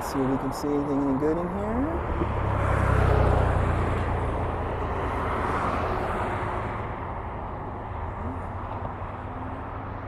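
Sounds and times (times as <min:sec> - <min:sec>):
passing vehicle rumble: 0:00.0 - 0:10.0.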